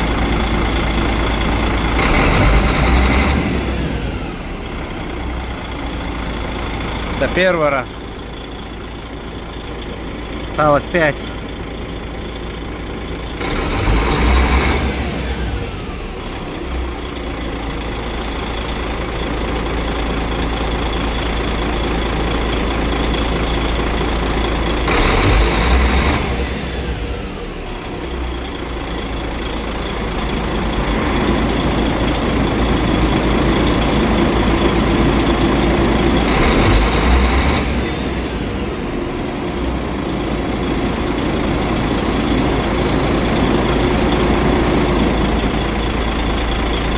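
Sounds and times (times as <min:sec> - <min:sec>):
diesel truck engine surging: 0:00.0 - 0:46.9.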